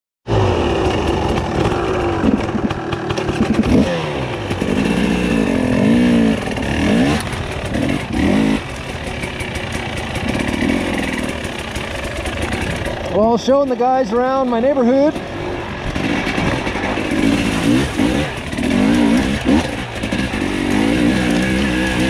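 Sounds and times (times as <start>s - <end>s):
dirt bike engine revving: 0.3s - 22.0s
bike clattering over rough ground: 0.8s - 5.1s, 6.4s - 21.7s.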